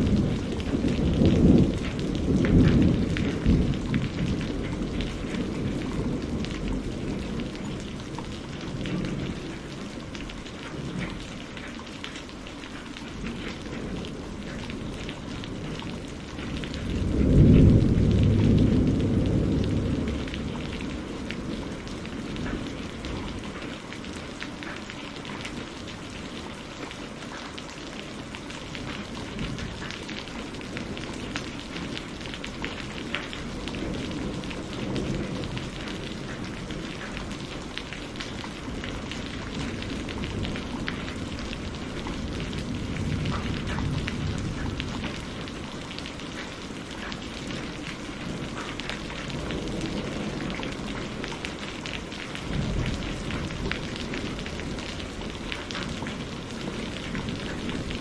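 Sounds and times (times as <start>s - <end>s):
low thunder rumbles: 0.0s - 58.0s
steady rain: 0.0s - 58.0s.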